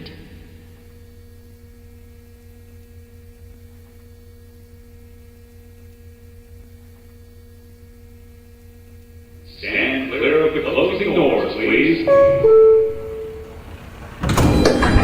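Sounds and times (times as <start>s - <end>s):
electrical hum tones: 0.0s - 15.0s.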